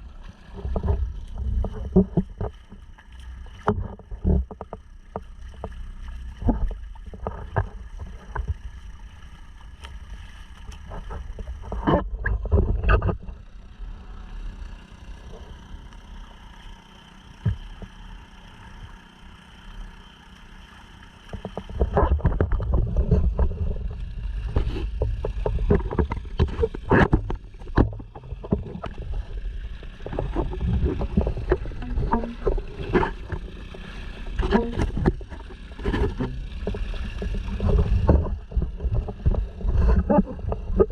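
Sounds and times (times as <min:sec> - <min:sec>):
outboard motor running: 0:00.0 - 0:40.9
water splashing against hull: 0:00.0 - 0:40.9.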